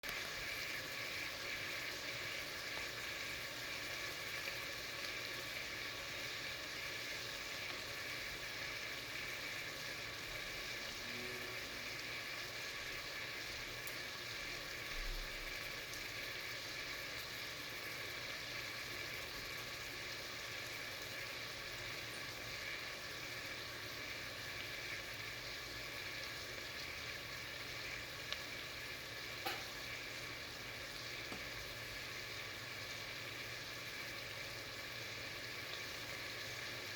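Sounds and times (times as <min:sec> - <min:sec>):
food sizzling in oil: 0:00.0 - 0:36.9.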